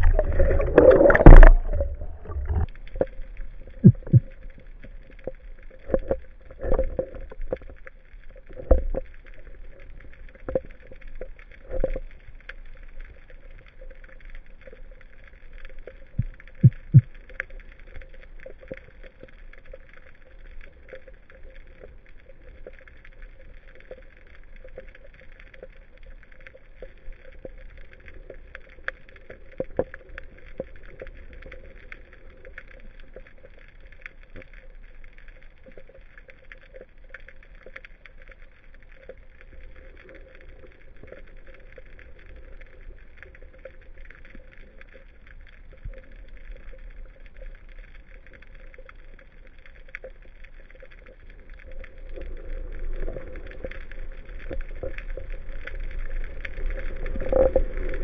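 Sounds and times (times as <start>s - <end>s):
sharp underwater clicks and crackles: 0.0s - 58.0s
underwater hiss and low hum: 0.0s - 58.0s.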